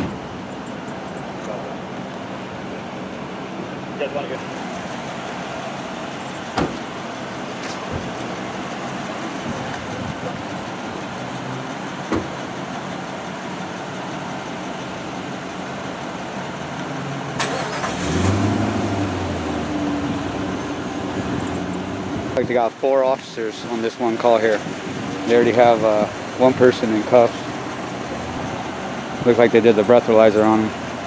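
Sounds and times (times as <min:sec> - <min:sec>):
road traffic: 0:00.0 - 0:31.0.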